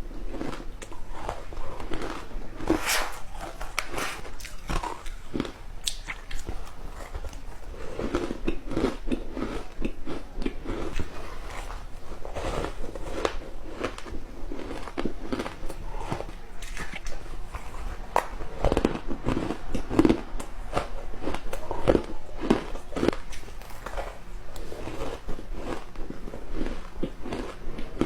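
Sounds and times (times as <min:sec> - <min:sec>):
chewing and crunching ice: 0:00.0 - 0:28.0.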